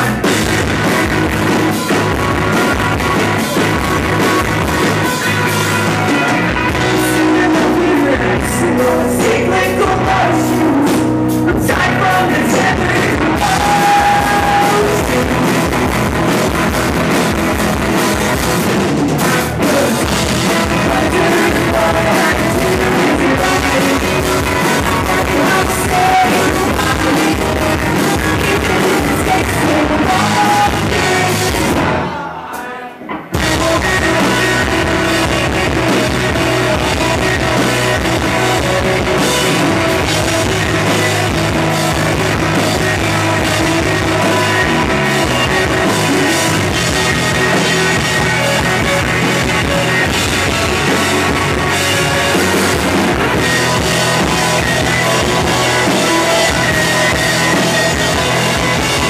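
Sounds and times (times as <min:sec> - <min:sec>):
rock band playing loudly: 0:00.0 - 0:59.0.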